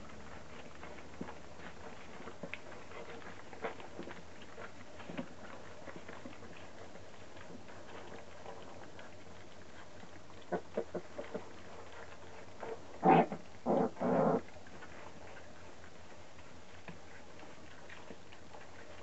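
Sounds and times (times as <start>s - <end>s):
puppies eating from pan: 0.0s - 19.0s.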